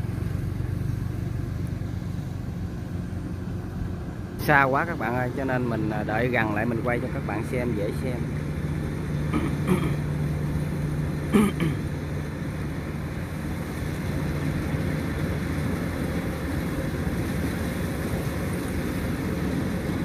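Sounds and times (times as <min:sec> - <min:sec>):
distant combine harvester drone: 0:00.0 - 0:20.0.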